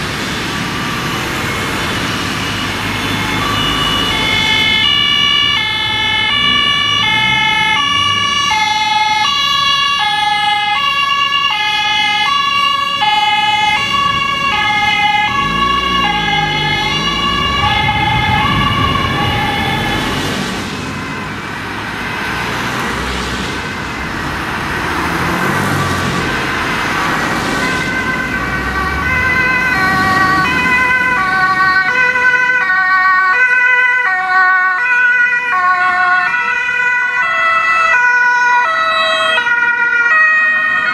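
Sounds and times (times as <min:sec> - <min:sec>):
passing traffic noise: 0:00.0 - 0:40.9
two-tone emergency sirens: 0:00.0 - 0:40.9.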